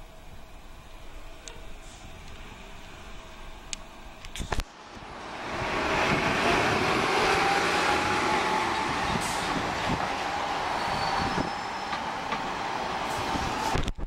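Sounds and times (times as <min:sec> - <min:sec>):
bus passing: 0:00.0 - 0:13.9.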